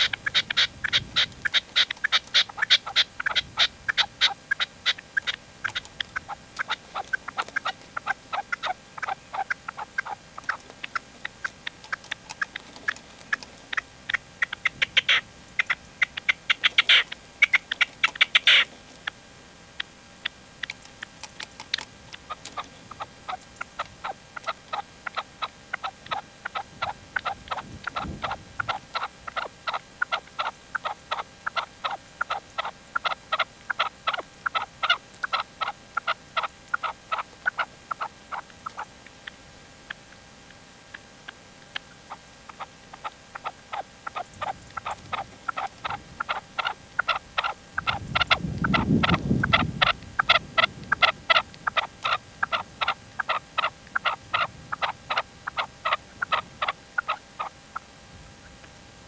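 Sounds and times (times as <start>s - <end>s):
partridge calling: 0.0s - 58.7s.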